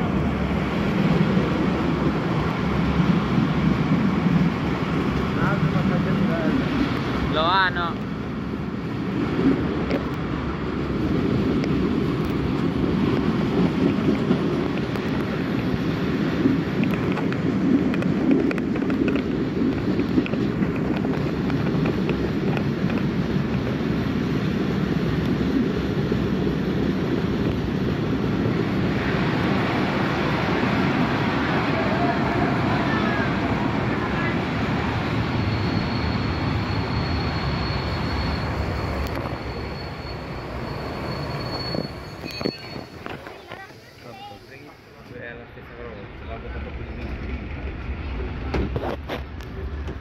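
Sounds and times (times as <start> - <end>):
wind rushing over microphone: 0.0 - 43.9
rumble of wheels on rails: 0.0 - 50.0.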